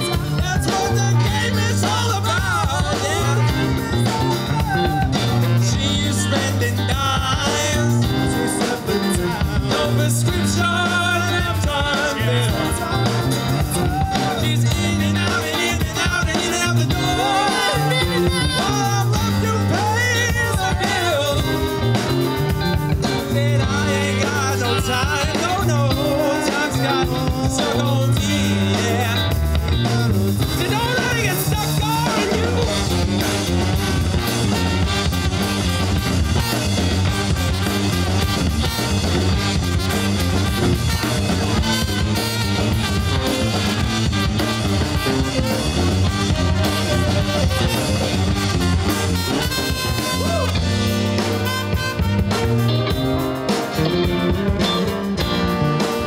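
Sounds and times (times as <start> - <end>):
person singing: 0.0 - 34.7, 40.7 - 56.0
funk band playing: 0.0 - 56.0
horn section: 0.0 - 56.0.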